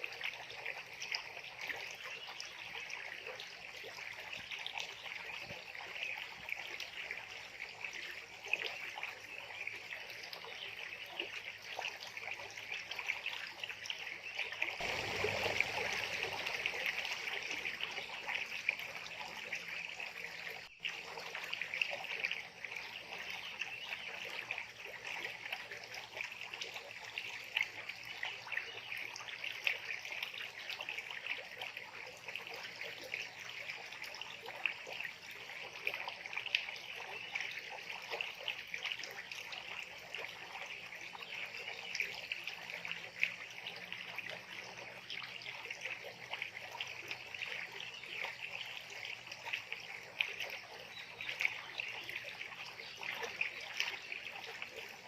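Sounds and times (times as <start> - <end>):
water trickling and flowing: 0.0 - 55.0.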